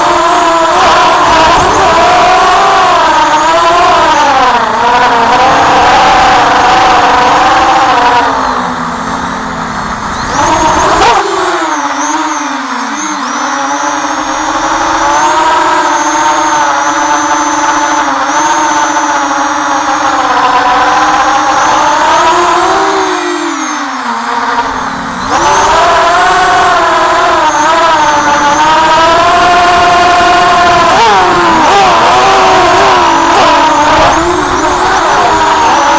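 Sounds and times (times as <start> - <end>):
quadcopter motors whining: 0.0 - 35.9.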